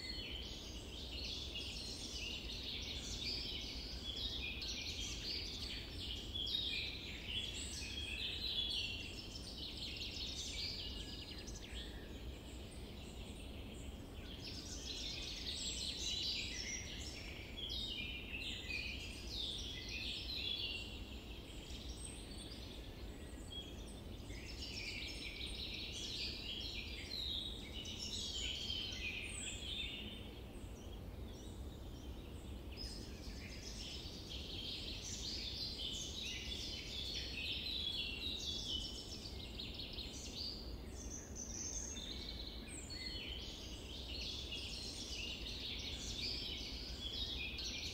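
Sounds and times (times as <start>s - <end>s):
faint low background noise: 0.0s - 47.9s
small birds chirping and singing: 0.0s - 47.9s.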